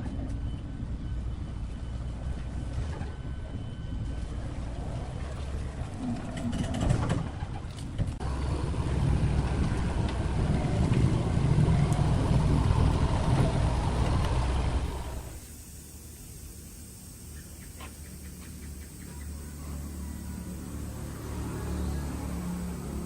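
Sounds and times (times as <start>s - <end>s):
large engine rumbling: 0.0s - 15.4s, 19.0s - 23.0s.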